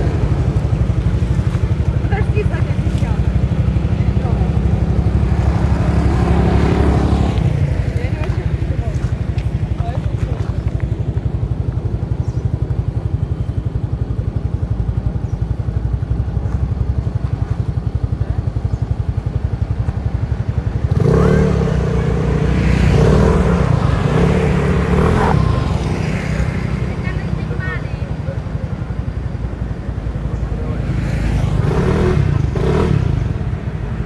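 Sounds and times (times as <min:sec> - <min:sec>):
passing motorbike engine: 0:00.0 - 0:34.0
small motorcycle engine idling: 0:00.0 - 0:34.0.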